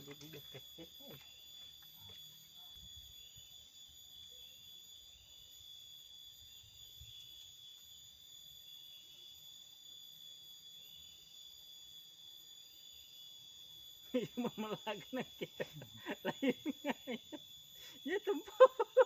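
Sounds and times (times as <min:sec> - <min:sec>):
crickets droning: 0:00.0 - 0:19.0
faint cricket chirps: 0:00.0 - 0:19.0.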